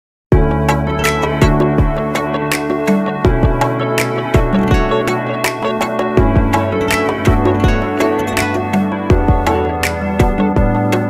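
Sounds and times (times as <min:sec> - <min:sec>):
instrumental background music: 0:00.3 - 0:11.0.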